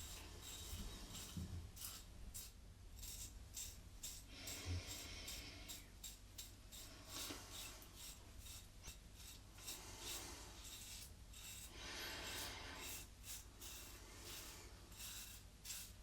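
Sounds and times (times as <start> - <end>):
razor scraping stubble: 0.0 - 16.0.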